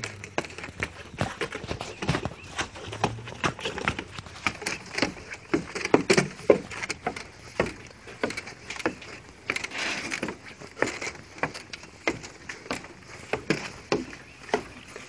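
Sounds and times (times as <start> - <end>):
footsteps on wooden boards: 0.0 - 15.0.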